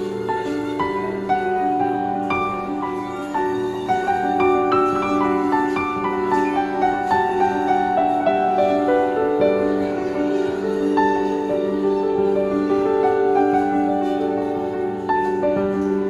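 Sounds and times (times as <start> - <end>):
slow instrumental music: 0.0 - 16.0.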